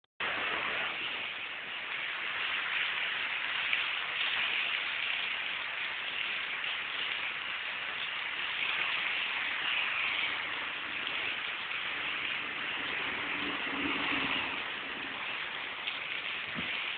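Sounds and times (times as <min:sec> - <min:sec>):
heavy rain on wet pavement: 0:00.2 - 0:16.9.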